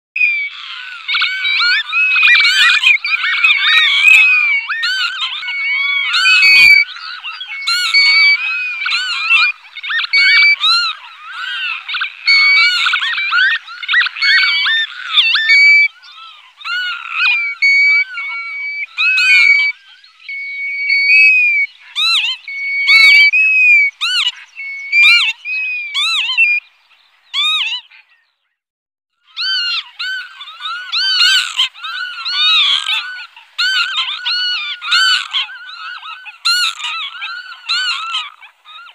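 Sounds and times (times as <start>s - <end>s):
flock of birds whistling: 0.2s - 28.3s, 29.2s - 38.9s.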